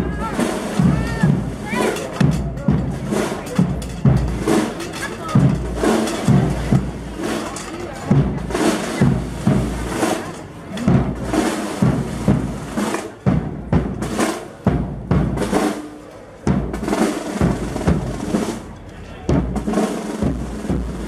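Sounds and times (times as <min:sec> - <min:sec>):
bass drum march beat: 0:00.0 - 0:18.7, 0:19.3 - 0:21.0.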